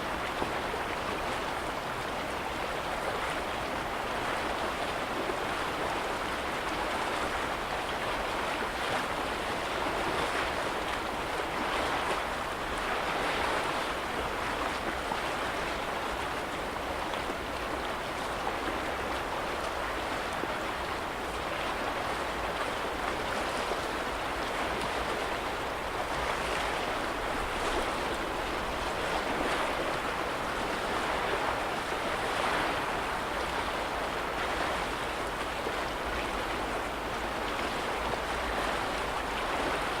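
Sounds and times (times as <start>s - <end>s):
small waves washing against shore: 0.0s - 40.0s.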